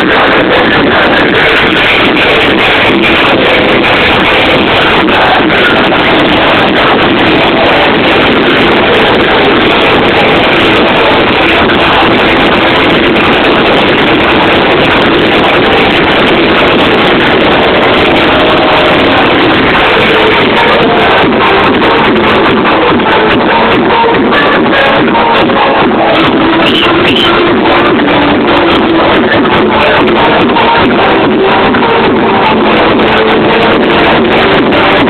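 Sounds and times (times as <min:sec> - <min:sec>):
distorted electronic dance music: 0:00.0 - 0:35.0.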